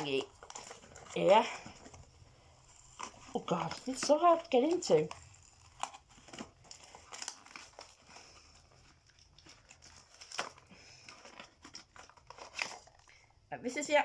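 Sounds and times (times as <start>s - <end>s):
packaging being torn and crinkled: 0.0s - 13.2s.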